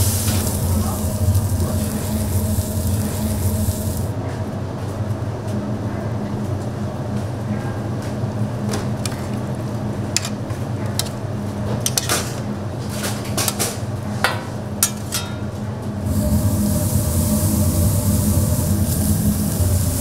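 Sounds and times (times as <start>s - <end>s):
steady low hum: 0.0s - 11.8s, 13.9s - 20.0s.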